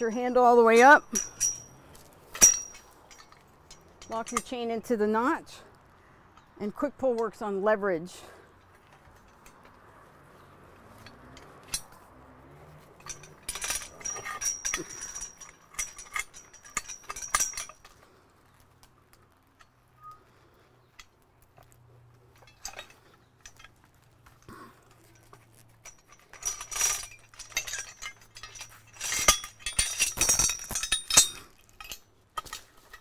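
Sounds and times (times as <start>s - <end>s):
chain clinking against steel: 0.0s - 7.3s, 8.2s - 33.0s.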